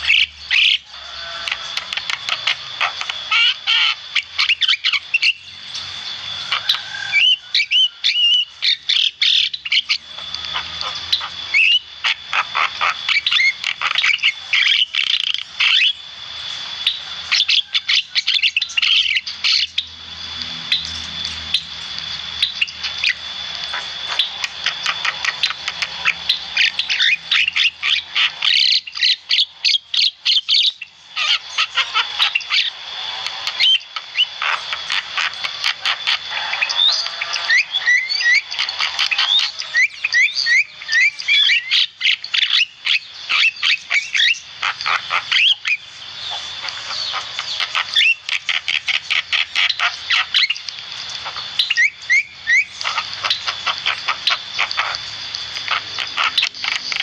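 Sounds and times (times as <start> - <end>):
thin steady high tone: 0.0 - 57.0.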